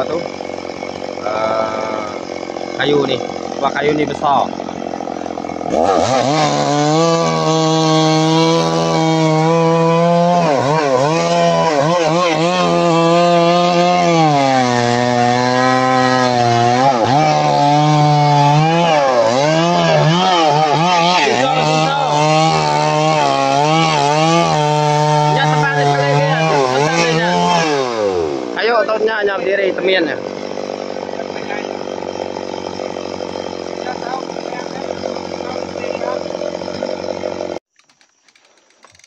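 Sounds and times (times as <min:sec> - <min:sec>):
chainsaw cutting log under load: 0:00.0 - 0:39.0.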